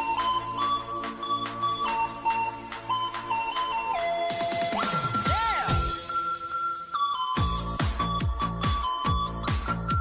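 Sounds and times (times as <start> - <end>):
electronic synth music: 0.0 - 10.0.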